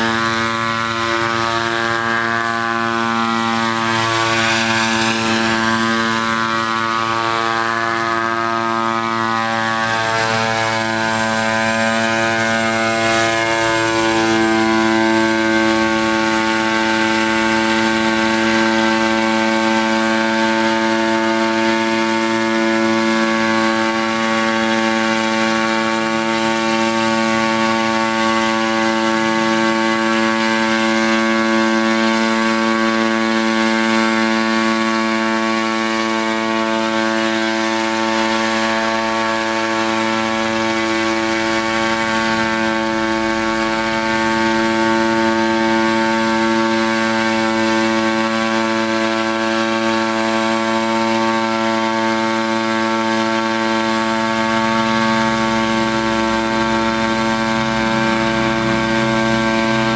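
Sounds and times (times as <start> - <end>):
drone engine and rotors: 0.0 - 59.9.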